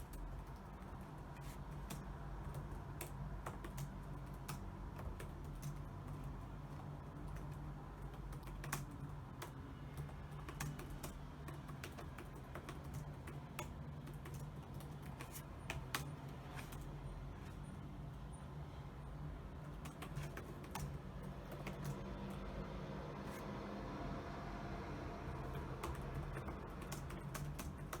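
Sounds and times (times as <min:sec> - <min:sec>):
computer keyboard typing: 0:00.0 - 0:17.6, 0:19.5 - 0:22.6, 0:25.2 - 0:28.0.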